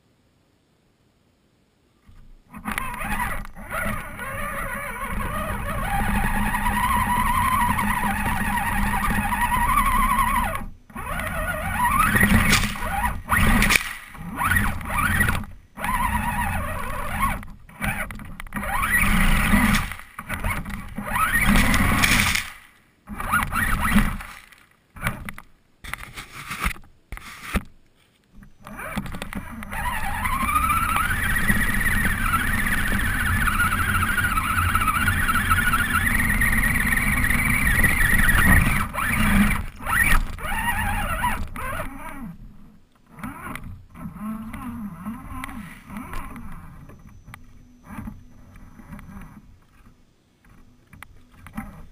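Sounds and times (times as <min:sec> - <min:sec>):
toy truck motor whining: 0:02.5 - 0:25.4, 0:28.5 - 0:51.9.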